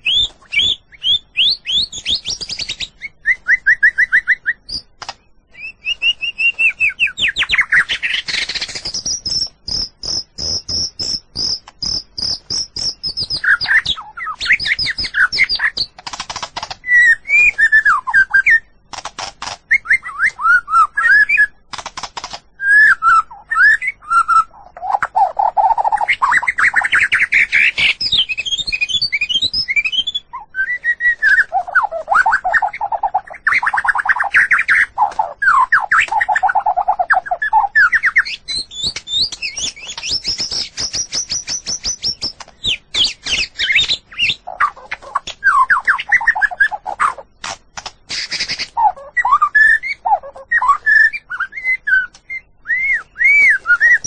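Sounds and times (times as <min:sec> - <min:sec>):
bird singing: 0:00.0 - 0:18.9, 0:19.6 - 0:21.7, 0:22.5 - 0:47.4, 0:48.0 - 0:54.0.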